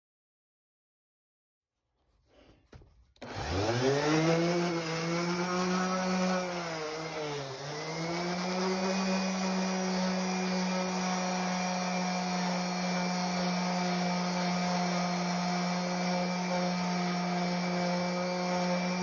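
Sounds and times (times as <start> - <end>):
orbit sander sanding wood: 3.2 - 19.0.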